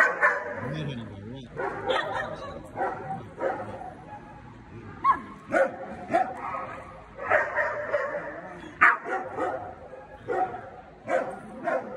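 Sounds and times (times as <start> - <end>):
dog barking: 0.0 - 0.6, 1.6 - 4.4, 5.0 - 11.9.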